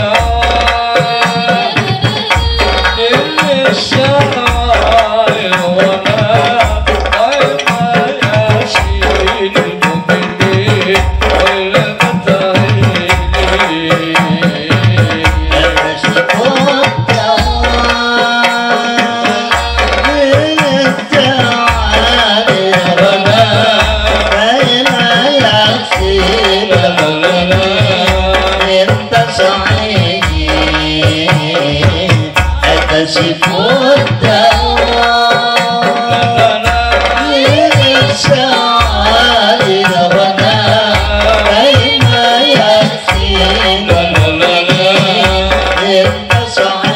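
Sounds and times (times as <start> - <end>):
frame drums: 0.0 - 46.9
men singing together: 0.0 - 46.9.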